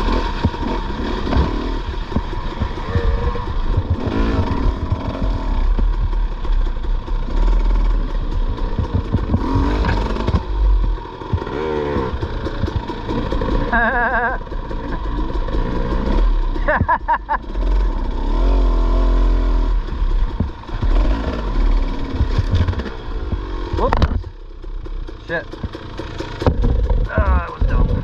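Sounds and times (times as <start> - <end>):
bike rattling over bumps: 0.0 - 18.5, 19.7 - 28.0
dirt bike engine revving: 0.0 - 28.0.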